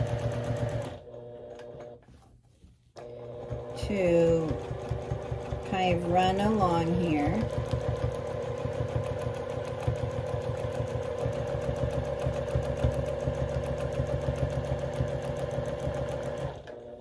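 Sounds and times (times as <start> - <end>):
sewing machine stitching: 0.0 - 2.0, 3.0 - 17.0.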